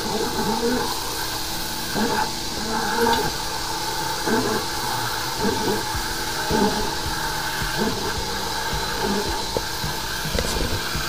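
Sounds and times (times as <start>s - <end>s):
jetter hose spraying water: 0.0s - 11.0s.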